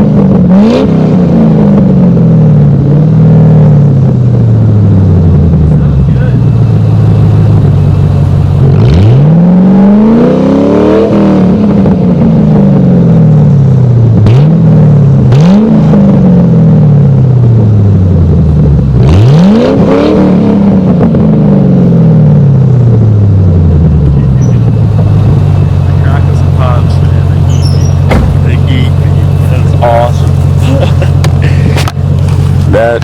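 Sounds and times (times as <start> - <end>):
loud open engine exhaust revving: 0.0 - 33.0.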